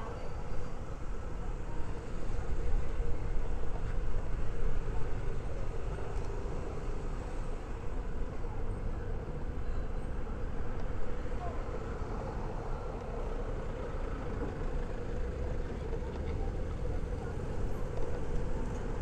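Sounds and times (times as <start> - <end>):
van engine and tyre rumble: 0.0 - 19.0.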